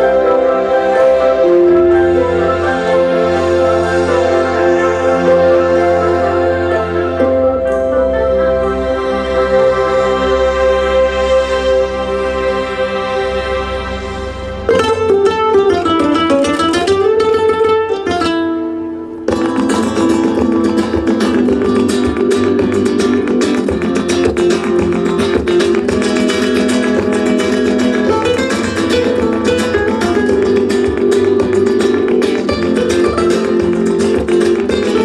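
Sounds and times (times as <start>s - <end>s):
fast strummed guitar music: 0.0s - 11.2s, 14.2s - 35.0s
held melodic line: 0.0s - 35.0s.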